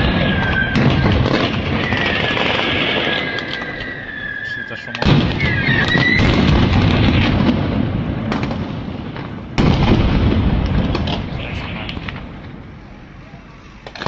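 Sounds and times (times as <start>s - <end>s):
explosions with crackling reports: 0.0s - 14.0s.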